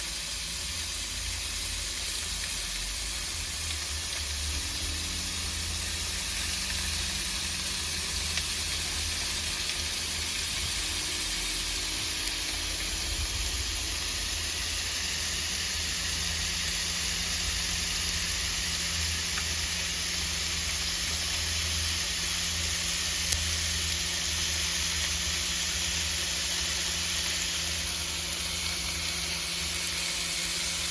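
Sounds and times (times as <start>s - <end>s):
meat sizzling on a grill: 0.0s - 30.9s.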